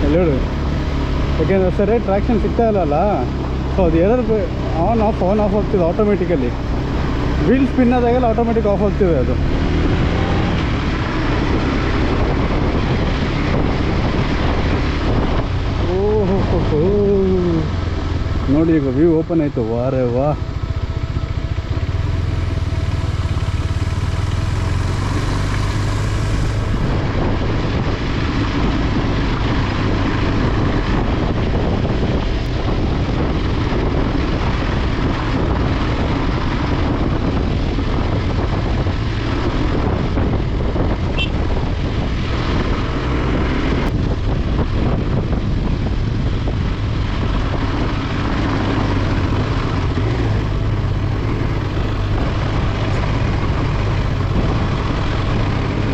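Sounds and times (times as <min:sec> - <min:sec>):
motorcycle engine rumbling: 0:00.0 - 0:55.9
steady rushing noise: 0:00.0 - 0:55.9.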